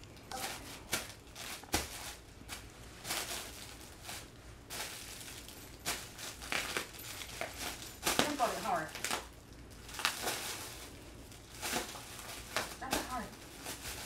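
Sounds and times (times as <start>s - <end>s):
bubble wrap popping underfoot: 0.0s - 14.0s.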